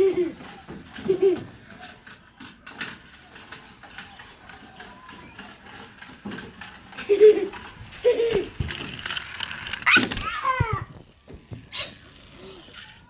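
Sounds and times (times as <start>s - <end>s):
dog claws clicking on floor: 1.8s - 12.9s.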